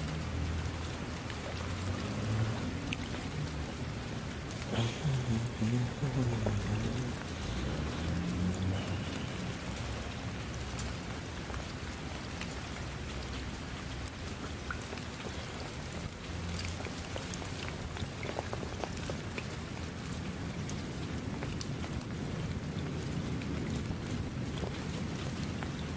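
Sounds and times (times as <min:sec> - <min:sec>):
raindrops ticking: 0:00.0 - 0:25.9
steady rain falling: 0:00.0 - 0:25.9.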